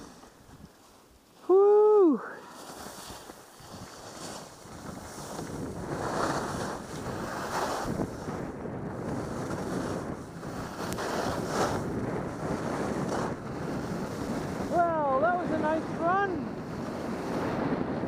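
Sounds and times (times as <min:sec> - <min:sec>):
skis scraping on packed snow: 0:00.0 - 0:18.0
wind rushing over microphone: 0:01.4 - 0:18.0.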